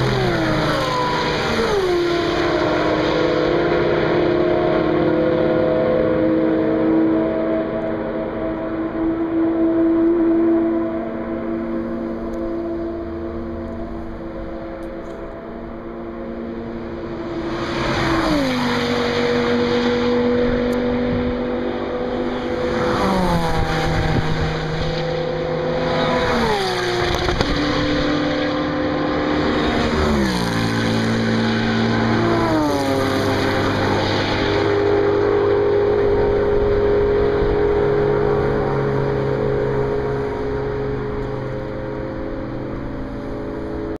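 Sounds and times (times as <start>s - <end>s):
cars passing at high speed: 0.0s - 44.0s.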